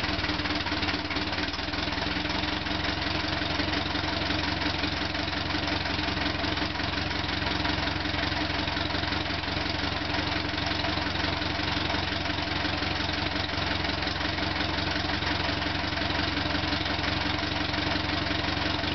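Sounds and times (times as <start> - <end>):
tractor engine idling: 0.0 - 18.9.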